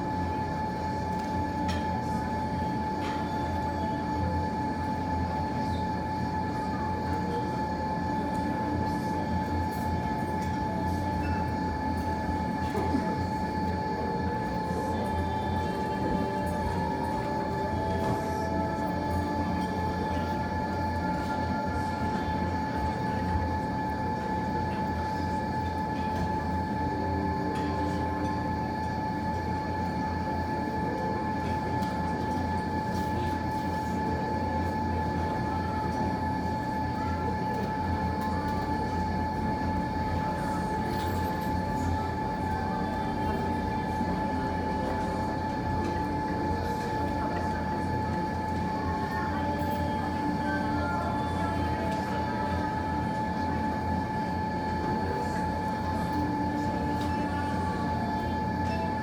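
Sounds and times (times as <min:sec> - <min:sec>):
mechanical hum with whine: 0:00.0 - 0:59.0.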